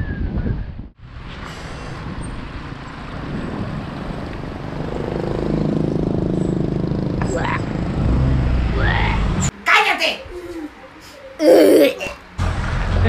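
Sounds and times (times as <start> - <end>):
wind and road noise: 0.0 - 11.4.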